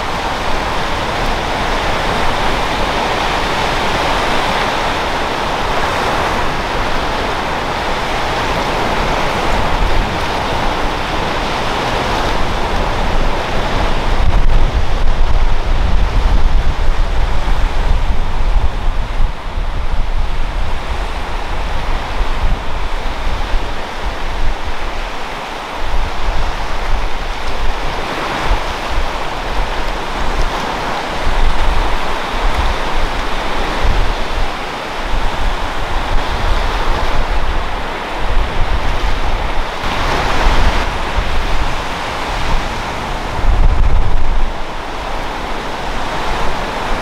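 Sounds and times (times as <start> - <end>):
waves breaking on sandy shore: 0.0 - 47.0
wind rumble on microphone: 0.0 - 47.0.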